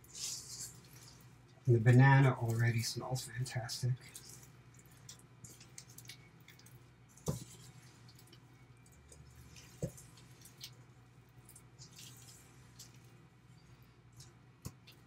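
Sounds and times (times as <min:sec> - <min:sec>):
spoon stirring sticky dough: 0:00.0 - 0:15.0.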